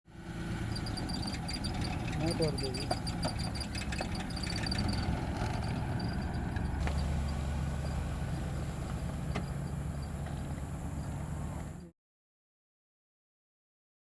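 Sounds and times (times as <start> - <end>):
car engine idling: 0.1 - 11.9.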